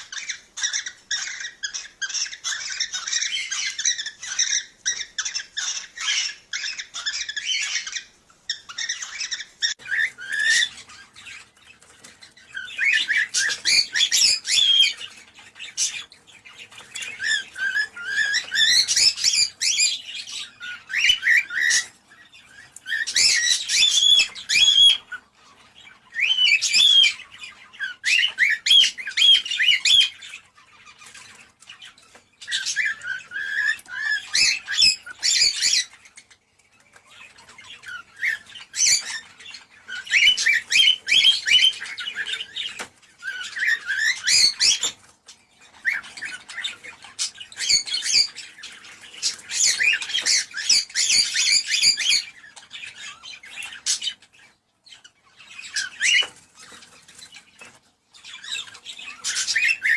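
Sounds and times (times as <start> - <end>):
cockatiels chirping and squawking: 0.0 - 59.9.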